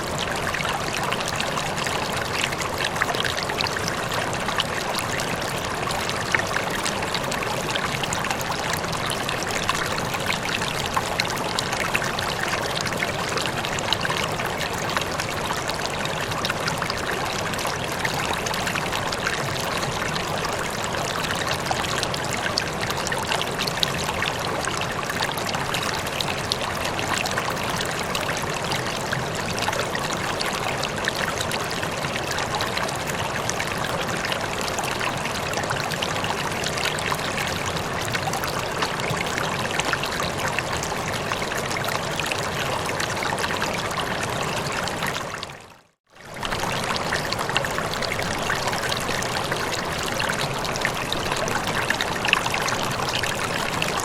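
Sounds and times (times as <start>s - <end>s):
running water flowing: 0.0s - 54.0s
small water splashes and trickles: 0.0s - 54.0s.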